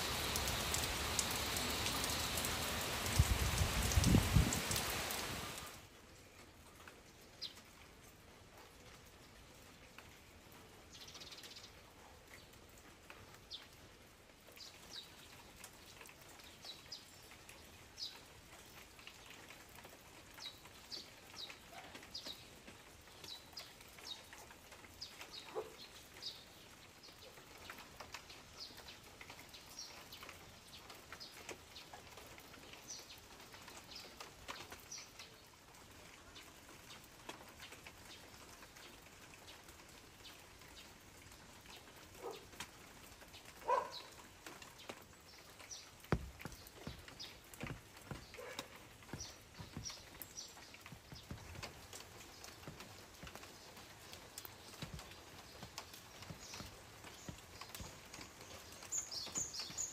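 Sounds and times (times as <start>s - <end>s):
light rain patter: 0.0s - 59.9s.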